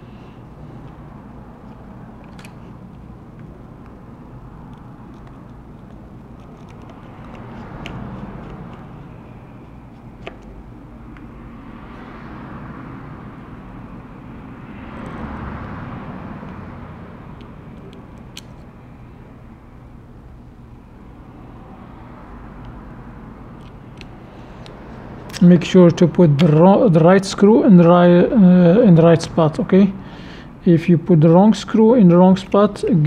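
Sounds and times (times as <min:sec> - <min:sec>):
traffic passing: 0:00.0 - 0:33.0.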